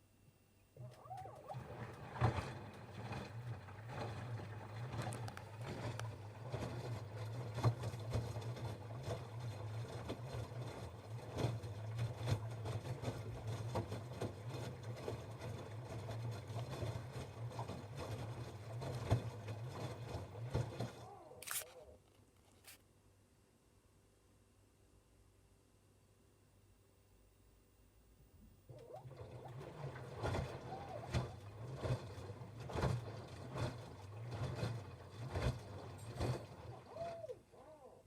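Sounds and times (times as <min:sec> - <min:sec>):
washing machine humming: 0:00.8 - 0:21.9, 0:28.3 - 0:38.0.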